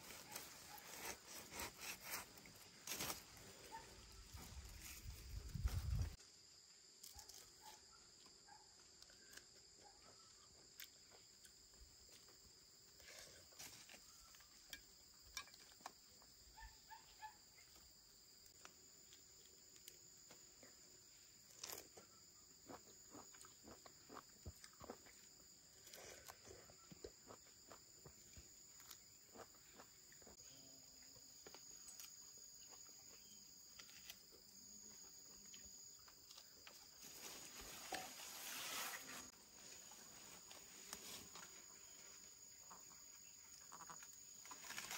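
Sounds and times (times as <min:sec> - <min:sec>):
high-pitched insects droning: 0:00.0 - 0:44.9.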